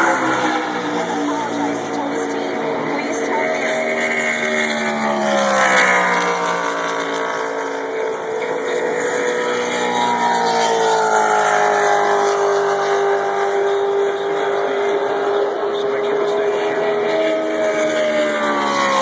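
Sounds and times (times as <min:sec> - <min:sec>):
truck engines running: 0:00.0 - 0:19.0.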